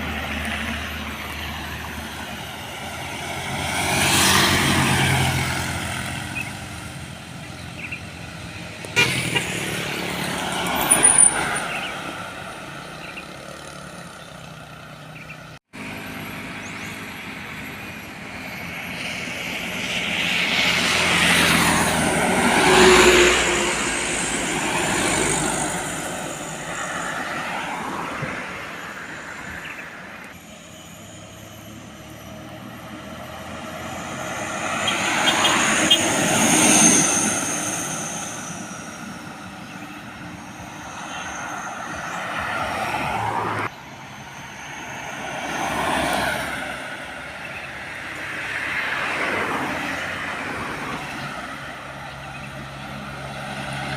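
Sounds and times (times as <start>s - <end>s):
heavy truck traffic passing: 0.0s - 53.9s.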